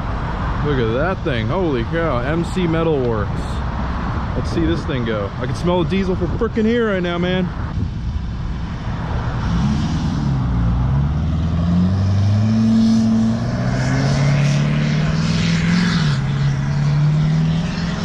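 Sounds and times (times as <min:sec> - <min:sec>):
diesel pickup accelerating: 0:00.0 - 0:18.0.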